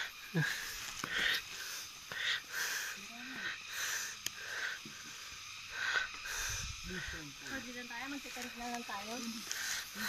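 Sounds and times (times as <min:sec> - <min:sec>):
heavy rhythmic breathing: 0:00.0 - 0:08.2, 0:09.2 - 0:10.0.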